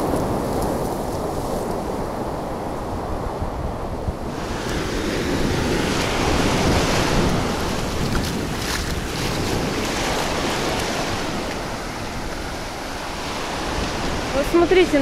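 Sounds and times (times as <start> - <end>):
waves washing on sand: 0.0 - 15.0
wind rumbling on microphone: 0.0 - 15.0.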